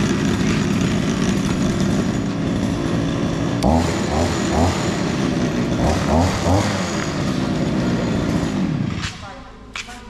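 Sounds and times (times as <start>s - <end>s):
brush cutter engine running: 0.0s - 9.8s.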